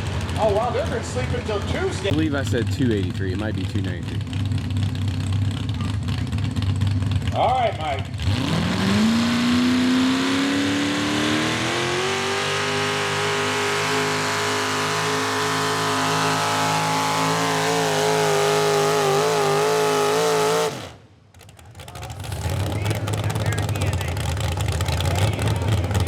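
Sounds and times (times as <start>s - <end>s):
truck engine at full throttle: 0.0s - 26.0s.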